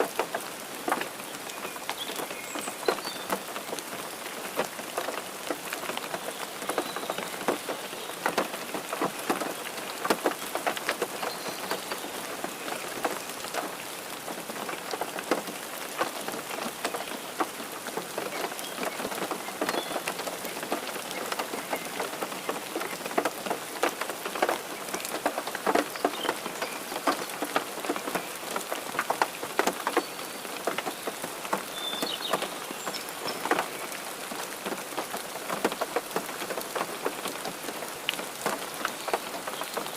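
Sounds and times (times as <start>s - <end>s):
rain falling on surface: 0.0s - 39.9s.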